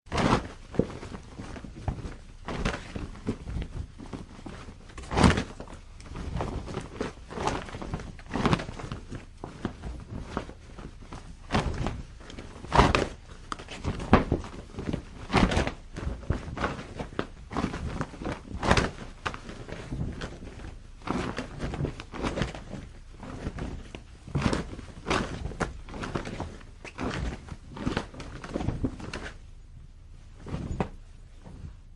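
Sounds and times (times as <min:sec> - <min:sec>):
cloth flapping in wind: 0:00.1 - 0:31.9.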